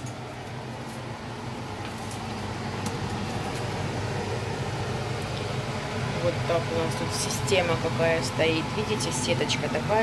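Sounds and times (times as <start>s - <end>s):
gas stove burner rushing: 0.0s - 10.0s.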